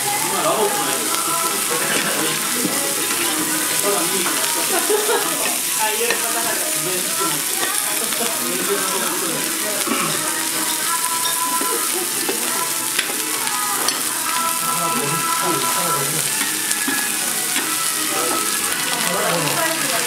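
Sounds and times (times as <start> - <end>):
corn sizzling in oil: 0.0 - 20.0.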